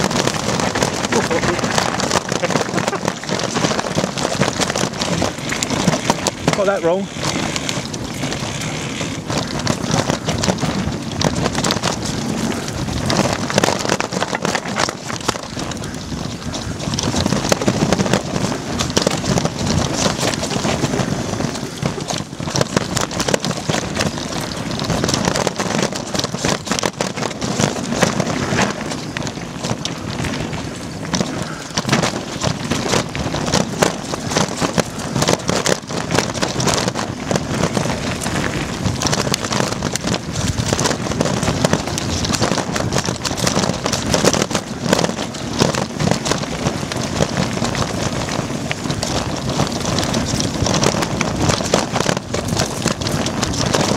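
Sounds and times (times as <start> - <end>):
bike rattling and knocking: 0.0 - 53.9
tyres on dirt: 0.0 - 53.9
wind buffeting microphone: 0.0 - 53.9.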